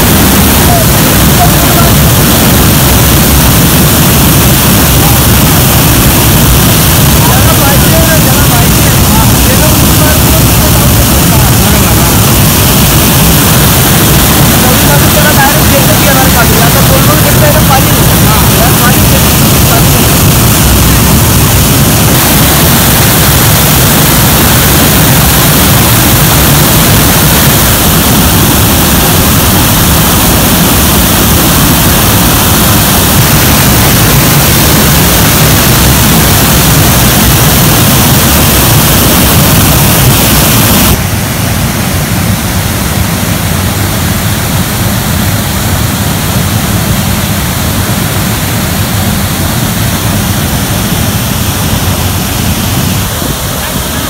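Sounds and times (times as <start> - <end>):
waterfall rushing onto rocks: 0.0 - 54.0.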